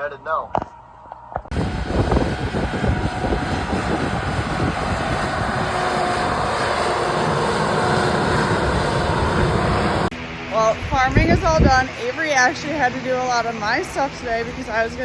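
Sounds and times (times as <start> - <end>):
low buffeting: 0.5 - 15.0
vehicle engine rumbling: 0.6 - 15.0.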